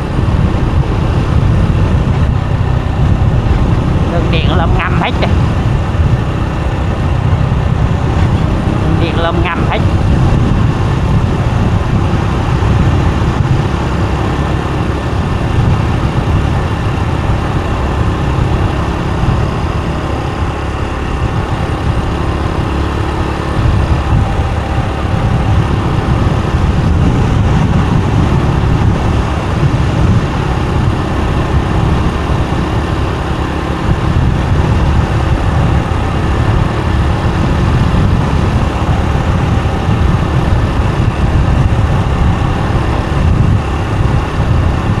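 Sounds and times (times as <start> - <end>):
motorbike engine: 0.0 - 45.0
road noise: 0.0 - 45.0
wind buffeting microphone: 0.0 - 45.0.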